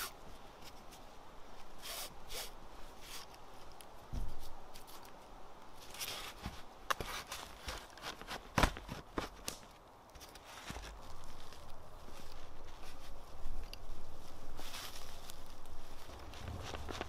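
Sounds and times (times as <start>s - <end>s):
cord rustling and creaking: 0.0s - 17.0s
dry tinder crackling: 0.0s - 17.0s.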